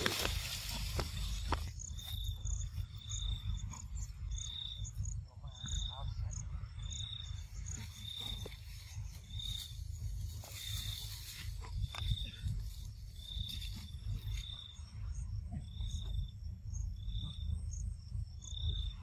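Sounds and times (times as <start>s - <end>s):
insects chirping: 0.0s - 19.0s
steady low rumble: 0.0s - 19.0s.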